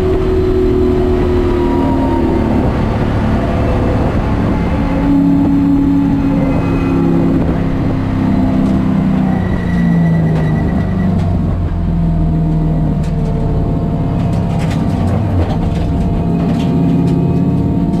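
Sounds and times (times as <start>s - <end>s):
race car engine at low revs: 0.0s - 18.0s.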